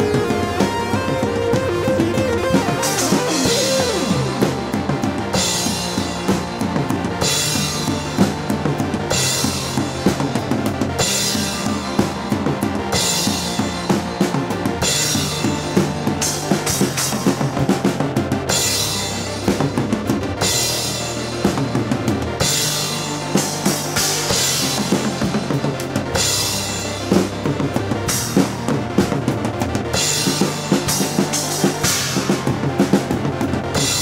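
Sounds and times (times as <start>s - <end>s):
bass line: 0.0s - 34.0s
drum kit: 0.0s - 34.0s.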